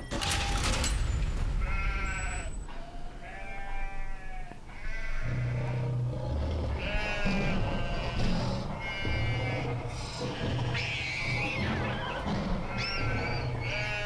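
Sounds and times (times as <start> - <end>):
wavering bleat-like cries: 1.6 - 14.0.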